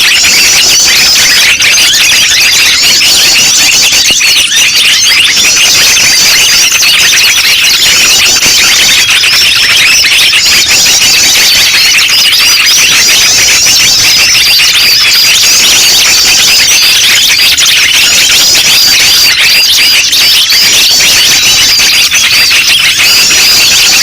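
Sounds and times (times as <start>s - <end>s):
many small birds chirping: 0.0s - 24.0s.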